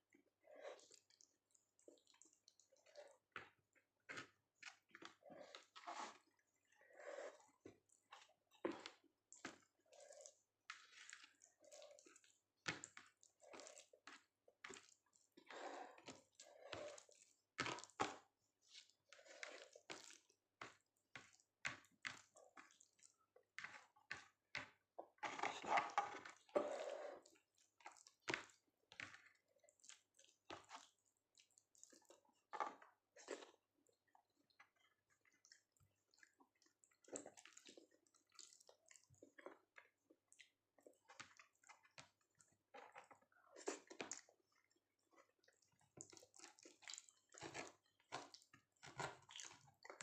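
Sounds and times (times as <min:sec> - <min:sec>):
chewing wet food: 0:00.1 - 0:50.0.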